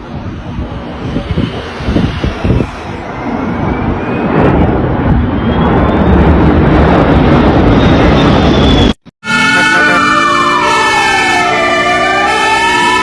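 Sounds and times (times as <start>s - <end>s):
plane engines passing overhead: 0.0s - 13.0s
siren: 0.8s - 13.0s.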